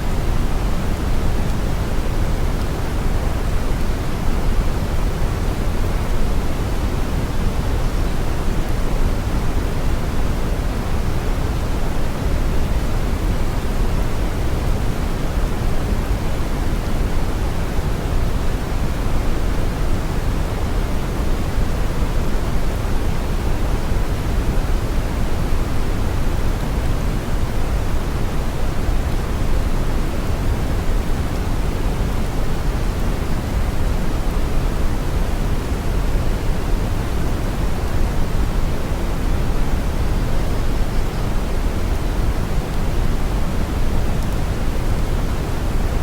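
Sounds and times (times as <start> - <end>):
brown noise hiss: 0.0 - 46.0.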